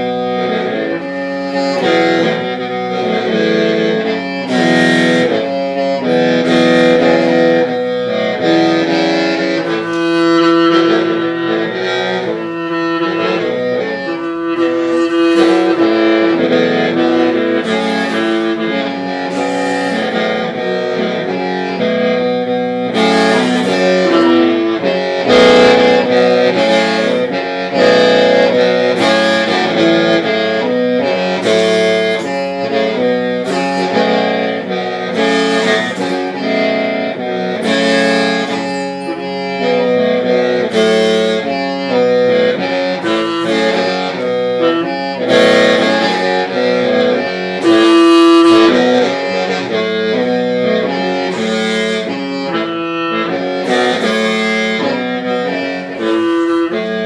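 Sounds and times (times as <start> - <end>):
bamboo mouth organ melody: 0.0 - 57.0.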